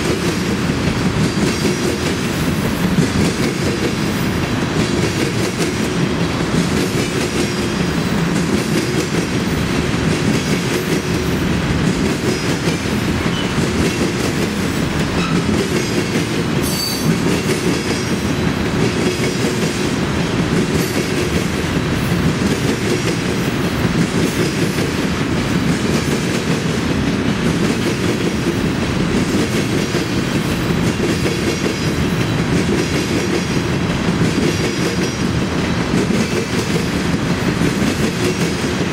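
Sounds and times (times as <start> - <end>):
train wheels rolling on rail: 0.0 - 38.9.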